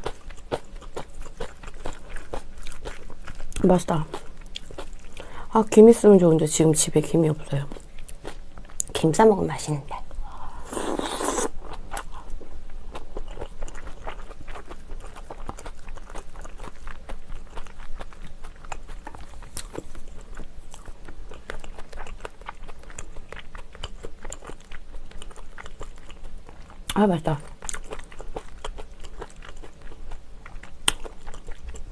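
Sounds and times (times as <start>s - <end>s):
person eating with wet chewing: 0.0s - 5.4s, 7.7s - 8.9s, 10.2s - 31.9s.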